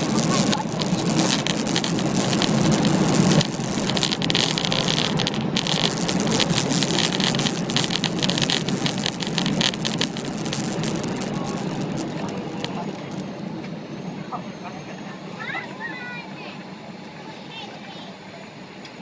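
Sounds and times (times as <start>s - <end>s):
aircraft engine and airflow rush: 0.0s - 19.0s.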